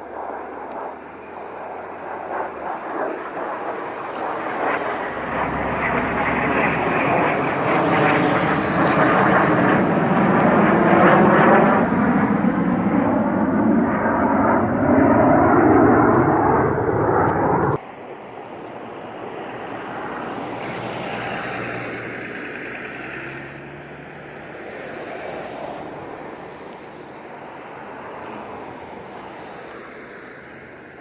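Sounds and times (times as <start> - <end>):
airplane flying past: 0.0 - 31.0.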